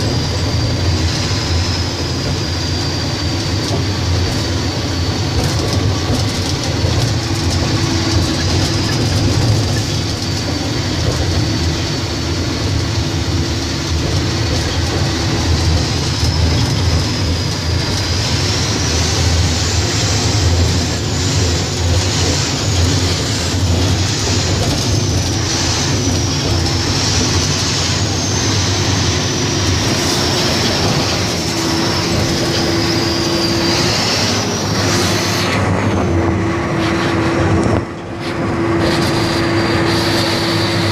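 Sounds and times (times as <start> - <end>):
high wavering whine: 0.0 - 40.9
low diesel engine rumble: 0.0 - 40.9.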